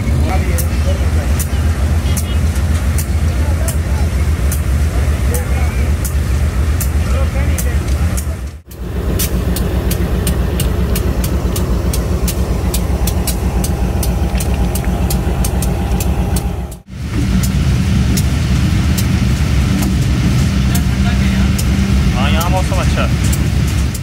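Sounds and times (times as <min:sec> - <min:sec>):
diesel locomotive engine running: 0:00.0 - 0:24.0
fast regular ticking: 0:00.3 - 0:24.0.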